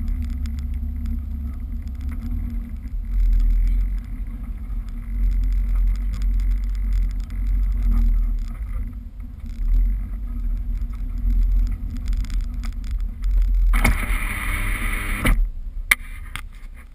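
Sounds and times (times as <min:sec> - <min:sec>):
car engine running: 0:00.0 - 0:16.9
wind rumble on microphone: 0:00.0 - 0:16.9.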